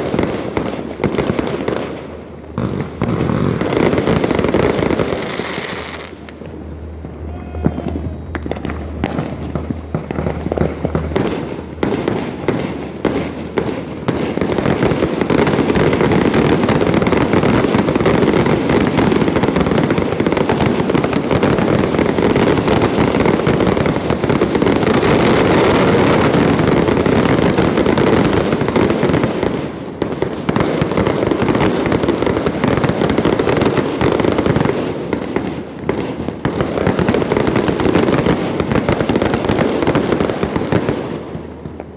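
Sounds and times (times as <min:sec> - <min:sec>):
fireworks bangs and crackling: 0:00.0 - 0:41.9.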